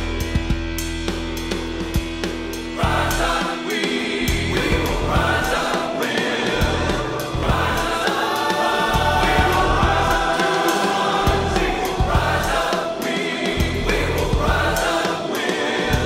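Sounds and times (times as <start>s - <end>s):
drum beat: 2.0s - 16.0s
choir singing held chords: 2.6s - 16.0s.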